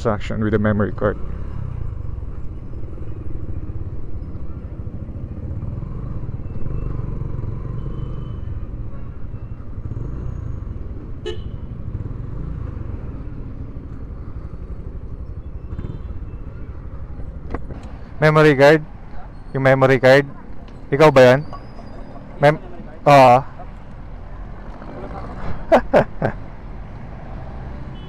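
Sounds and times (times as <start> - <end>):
wind and traffic rumble: 0.0 - 28.0.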